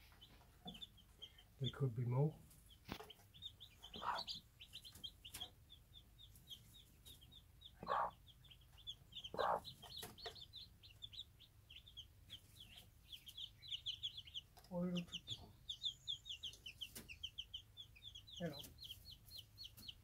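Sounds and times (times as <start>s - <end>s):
chicks peeping: 0.0s - 20.0s
hen clucking: 2.6s - 20.0s.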